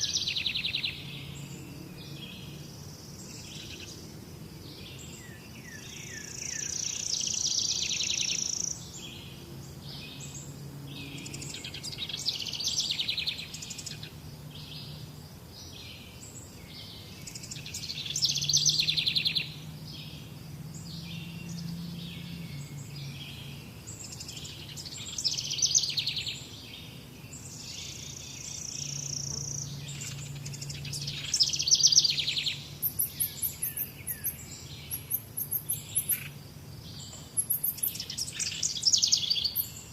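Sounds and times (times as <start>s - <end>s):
quieter bird calls: 0.0s - 39.9s
songbirds warbling: 0.0s - 39.9s.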